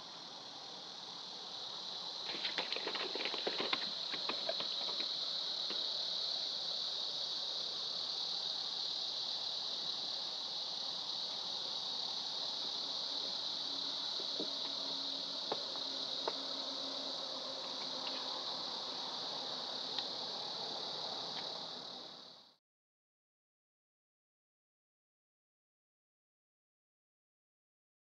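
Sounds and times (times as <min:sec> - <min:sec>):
high-pitched insect chorus: 0:00.0 - 0:22.6.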